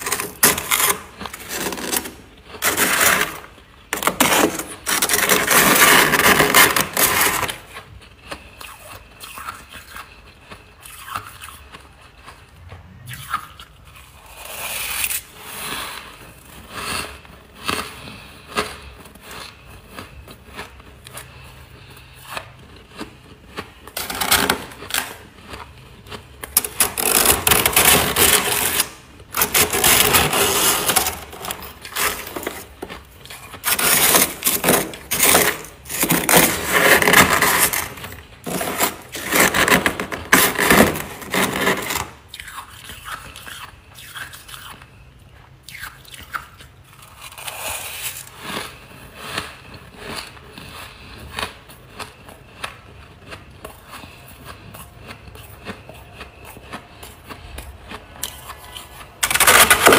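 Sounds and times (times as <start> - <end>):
spoon scraping frost: 0.0 - 44.8, 45.8 - 51.5, 57.9 - 59.9.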